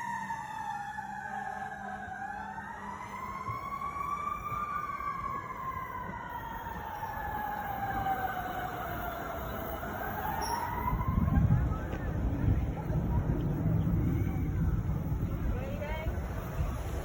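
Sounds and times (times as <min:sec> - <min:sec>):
emergency siren wailing: 0:00.0 - 0:17.0
low rumble: 0:02.9 - 0:17.0.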